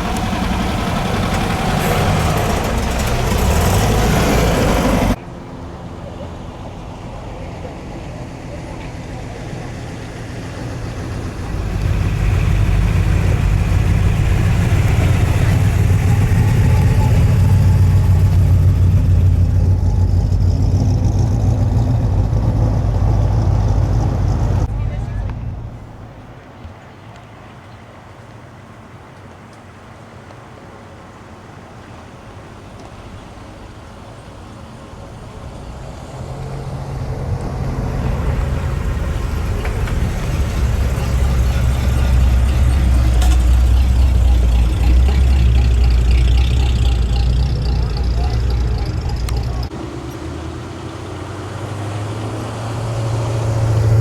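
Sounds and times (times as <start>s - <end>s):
car engine rumbling: 0.0s - 26.5s, 31.9s - 54.0s.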